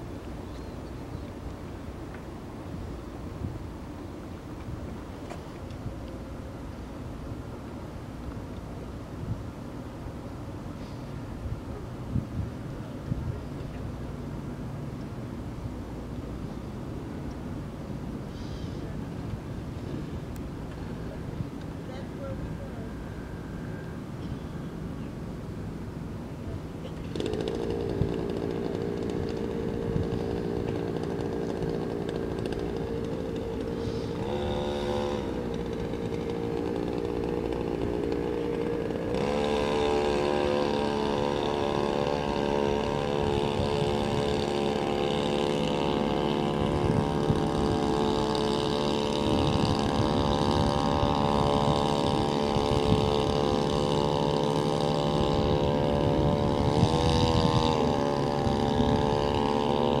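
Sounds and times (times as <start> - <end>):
outboard motor running: 0.0 - 60.0.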